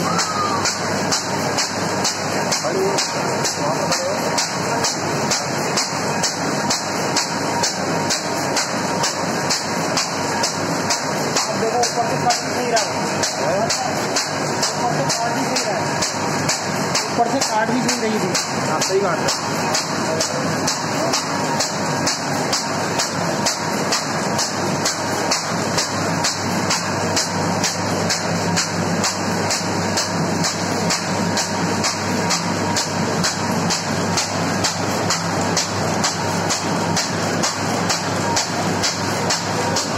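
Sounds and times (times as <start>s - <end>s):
paper bag machine clattering: 0.1s - 39.9s.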